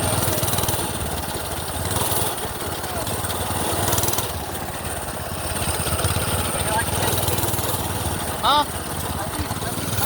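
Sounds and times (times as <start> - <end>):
small gas engine running: 0.0 - 10.0.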